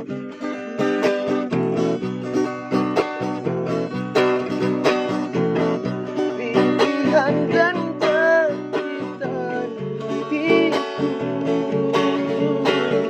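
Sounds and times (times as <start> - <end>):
guitar plucked notes: 0.0 - 13.0
person singing: 0.0 - 13.0.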